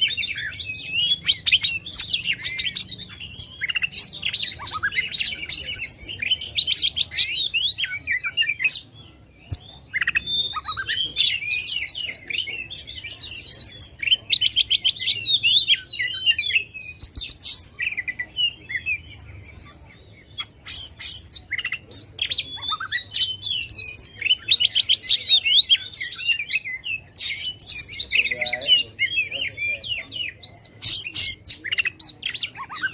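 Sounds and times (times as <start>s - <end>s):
magpie-robin singing whistles and trills: 0.0s - 32.9s.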